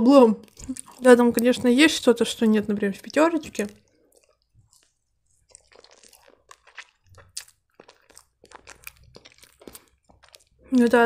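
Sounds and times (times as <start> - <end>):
person chewing pastry: 0.4 - 11.0.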